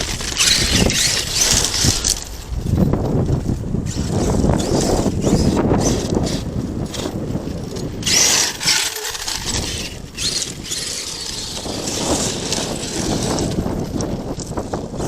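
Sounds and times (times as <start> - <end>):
toy truck tyres on dirt: 0.0 - 15.0.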